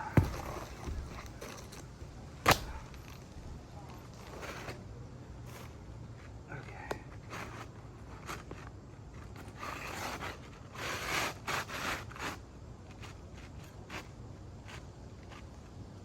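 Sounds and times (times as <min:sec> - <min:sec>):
shingle scraping against shingles: 0:00.0 - 0:16.0.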